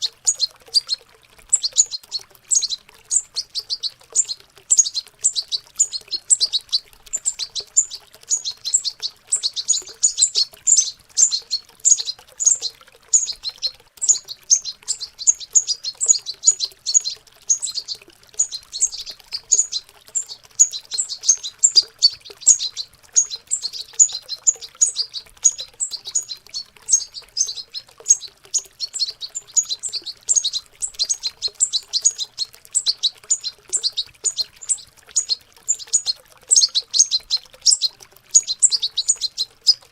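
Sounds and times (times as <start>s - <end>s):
faint running water: 0.0s - 39.9s
young birds twittering: 0.0s - 39.9s.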